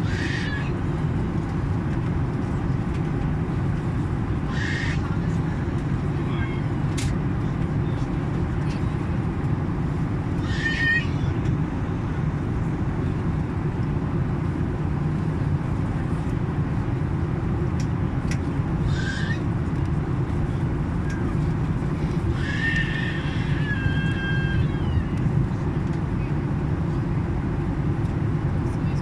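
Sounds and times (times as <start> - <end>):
airplane rumble: 0.0 - 29.0.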